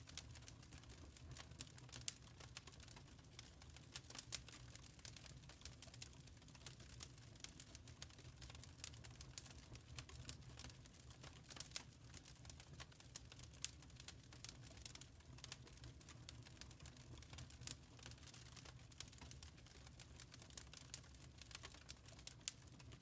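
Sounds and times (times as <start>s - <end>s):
wood fire popping and snapping: 0.0s - 23.0s.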